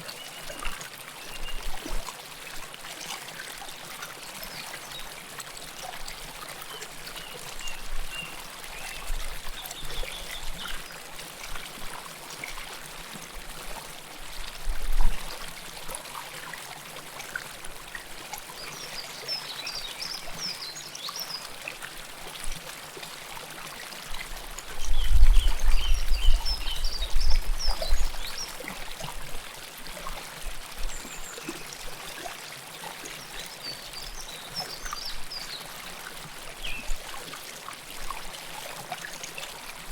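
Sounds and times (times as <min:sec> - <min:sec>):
river water flowing and trickling: 0:00.0 - 0:39.9.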